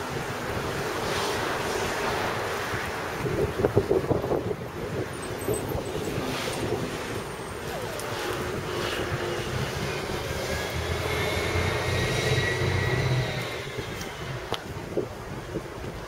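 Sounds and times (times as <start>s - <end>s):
wind on microphone: 0.0s - 16.0s
passing engine hum: 0.1s - 15.2s.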